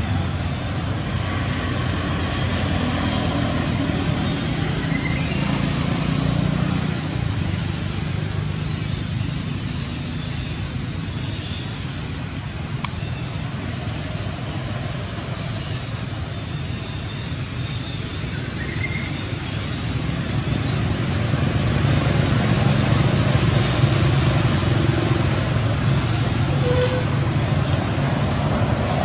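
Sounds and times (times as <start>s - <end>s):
low engine hum: 0.0s - 29.0s
traffic rumble: 0.0s - 29.0s.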